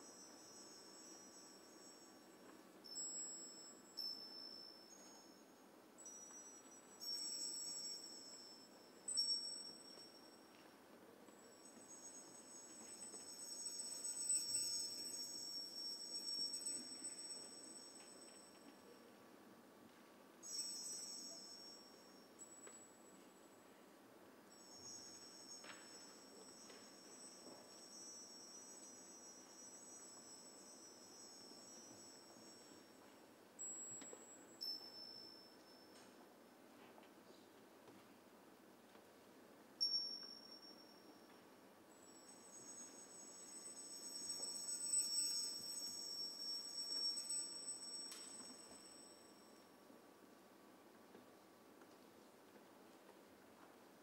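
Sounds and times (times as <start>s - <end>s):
high chime-like tones: 0.0s - 19.1s, 20.4s - 23.8s, 24.5s - 36.3s, 39.8s - 50.0s.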